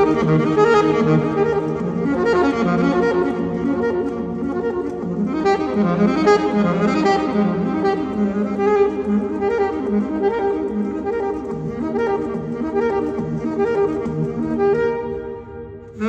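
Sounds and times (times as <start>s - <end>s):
jazz saxophone lead: 0.0s - 16.0s.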